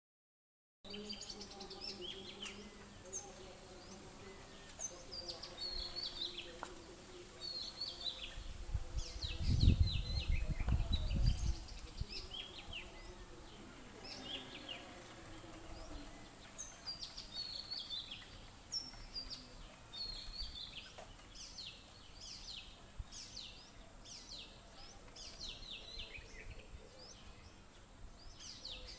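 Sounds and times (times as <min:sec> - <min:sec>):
birds chirping and chattering: 0:00.9 - 0:28.9.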